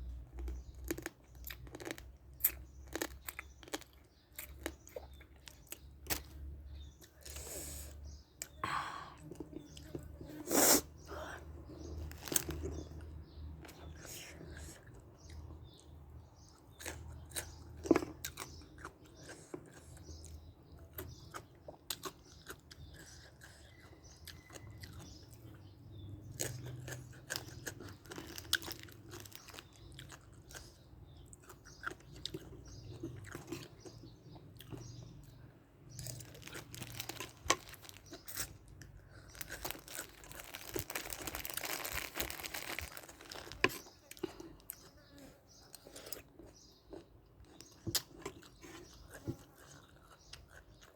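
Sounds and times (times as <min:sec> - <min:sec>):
person chewing crunchy food: 0:00.1 - 0:50.9.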